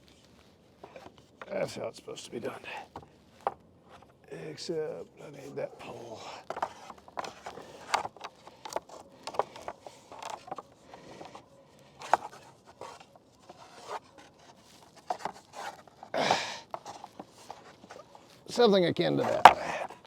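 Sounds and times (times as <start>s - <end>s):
rope rubbing and scraping: 0.0s - 1.8s, 5.2s - 20.0s.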